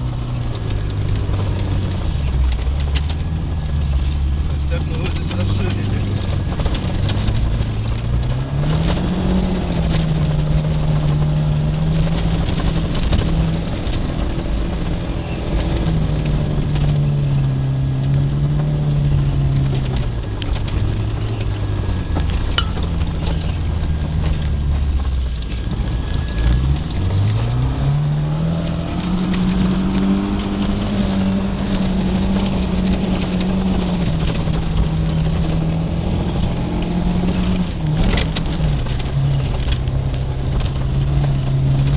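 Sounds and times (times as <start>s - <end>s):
car engine revving high: 3.4s - 25.1s, 25.8s - 41.9s.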